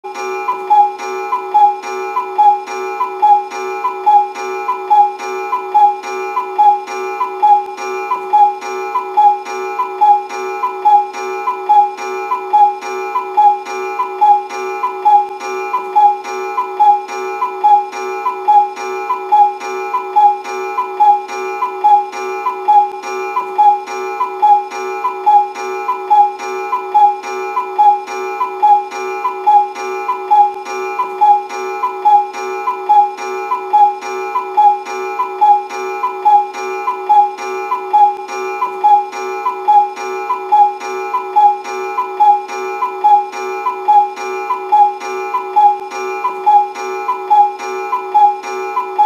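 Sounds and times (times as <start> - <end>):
cuckoo clock call: 0.0 - 49.0.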